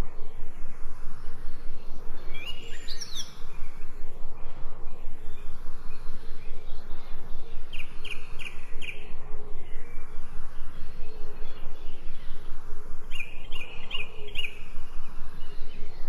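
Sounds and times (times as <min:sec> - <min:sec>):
pulsing background noise: 0:00.0 - 0:16.0
small birds chirping: 0:01.6 - 0:04.0, 0:05.0 - 0:16.0.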